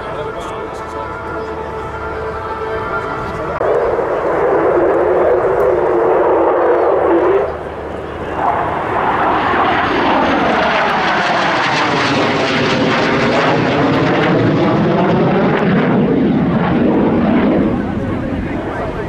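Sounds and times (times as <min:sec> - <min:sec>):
jet engine flying past: 0:00.0 - 0:19.0.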